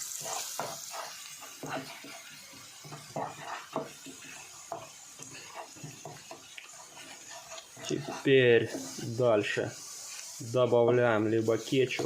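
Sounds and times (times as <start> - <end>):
utensil scraping frying pan: 0.0 - 10.4, 11.1 - 12.0
light sizzle: 0.0 - 12.0.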